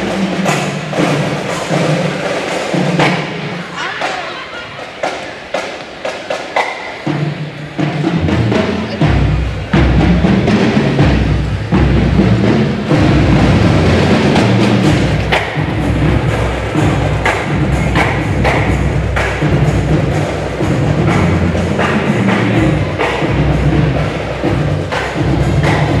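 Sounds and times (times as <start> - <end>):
drum beat: 0.0 - 26.0.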